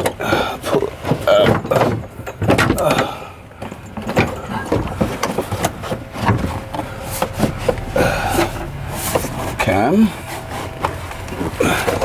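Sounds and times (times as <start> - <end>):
car interior parts knocking and rustling: 0.0 - 12.0.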